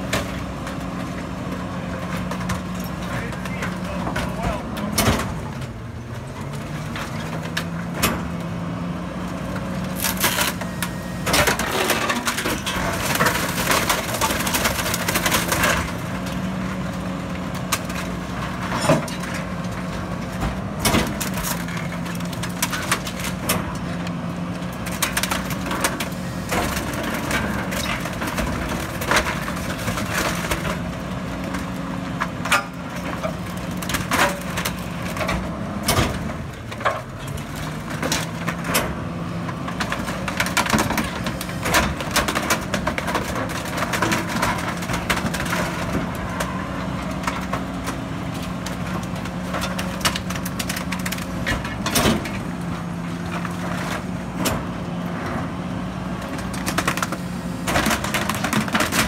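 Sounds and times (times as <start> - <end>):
truck engine drone: 0.0 - 59.0
wood cracking and splintering: 0.0 - 59.0.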